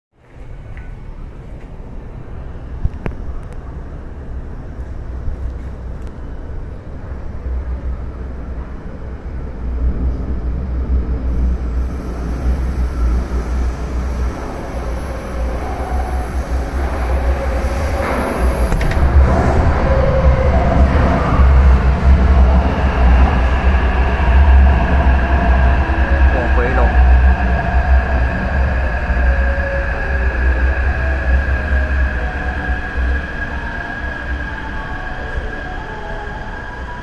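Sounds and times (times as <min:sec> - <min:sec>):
metro train rumble: 0:00.1 - 0:37.0.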